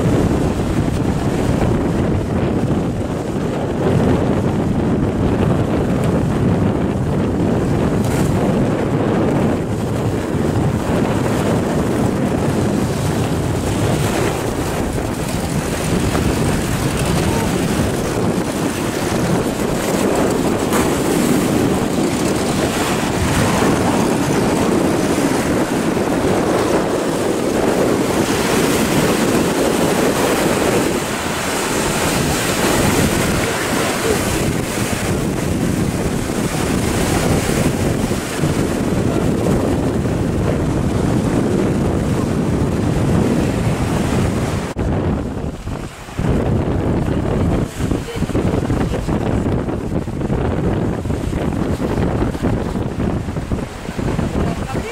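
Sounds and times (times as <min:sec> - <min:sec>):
waves breaking on rough sea: 0:00.0 - 0:54.9
wind buffeting microphone: 0:00.0 - 0:54.9.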